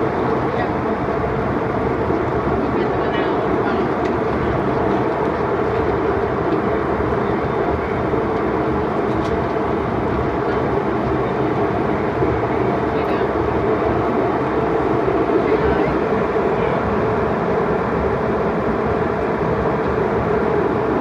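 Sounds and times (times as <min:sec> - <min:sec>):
airliner cabin engine roar: 0:00.0 - 0:21.0.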